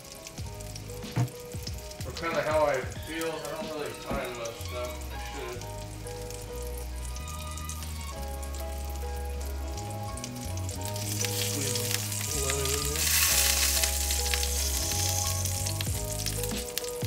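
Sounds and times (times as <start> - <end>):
background music: 0.0 - 17.0
chicken sizzling in a skillet: 0.0 - 17.0.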